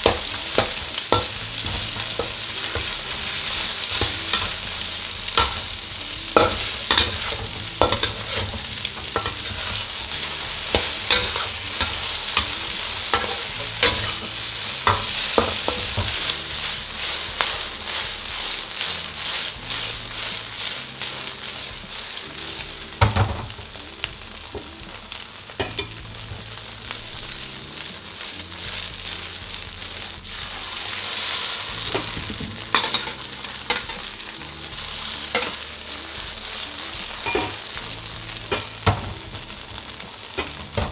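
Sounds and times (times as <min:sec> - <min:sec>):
metal spatula scraping a wok: 0:00.0 - 0:22.7, 0:26.9 - 0:37.8
food sizzling in a wok: 0:00.0 - 0:40.9.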